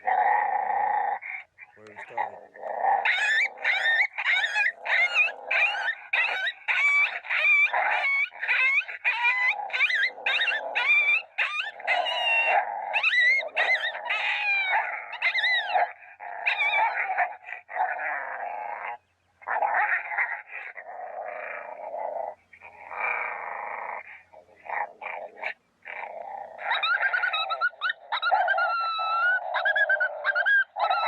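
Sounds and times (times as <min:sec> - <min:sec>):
coyote snarling: 0:00.0 - 0:31.0
coyote yelps and yips: 0:00.0 - 0:31.0.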